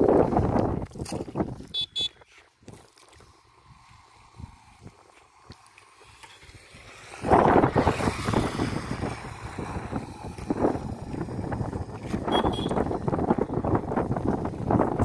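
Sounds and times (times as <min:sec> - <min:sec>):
wind buffeting microphone: 0:00.0 - 0:01.8, 0:02.6 - 0:15.0.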